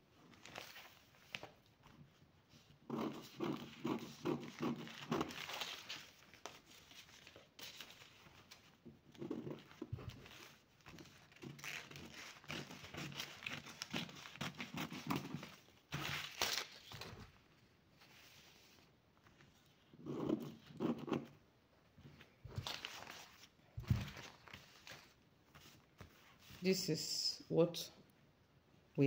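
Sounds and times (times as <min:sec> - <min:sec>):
paper rustling: 0:00.2 - 0:21.3, 0:22.0 - 0:26.9.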